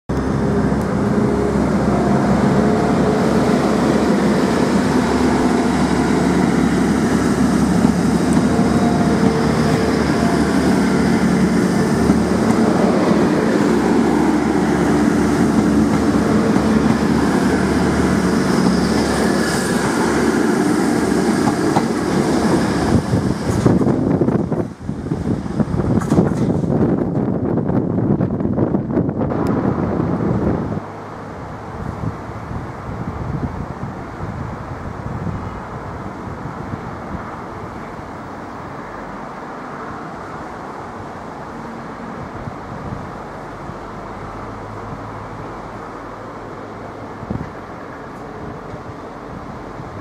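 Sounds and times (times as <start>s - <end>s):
diesel train engines: 0.1s - 50.0s
wheel and rail noise: 0.1s - 50.0s.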